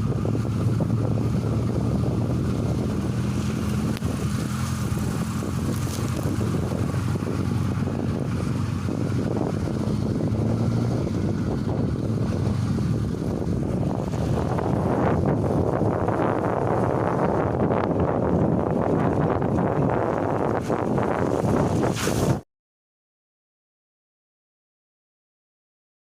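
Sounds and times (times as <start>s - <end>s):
car engine running: 0.0s - 22.4s
road and wind noise: 0.0s - 22.4s.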